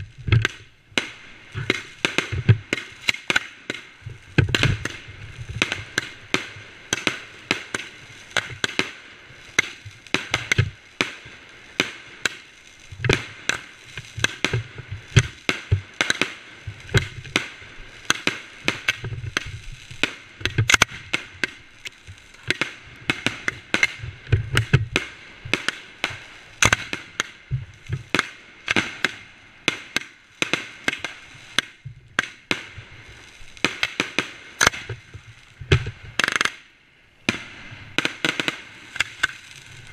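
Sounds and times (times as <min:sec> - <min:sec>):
fireworks cracks and bangs: 0:00.0 - 0:39.9.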